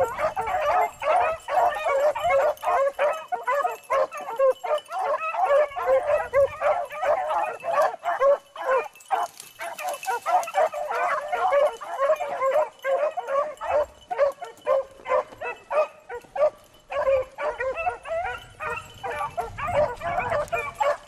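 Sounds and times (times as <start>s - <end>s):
dogs baying: 0.0s - 21.0s.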